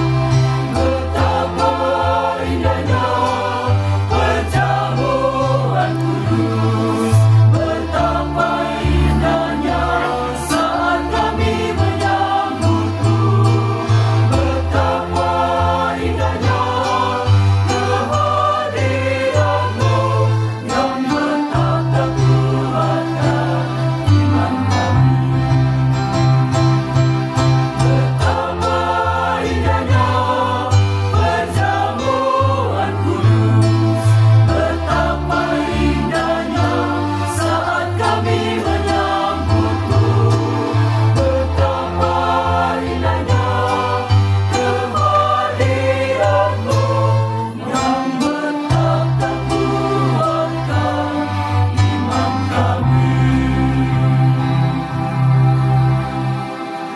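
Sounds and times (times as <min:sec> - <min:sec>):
electronic keyboard bass notes: 0:00.0 - 0:56.9
mixed choir singing: 0:00.0 - 0:56.9.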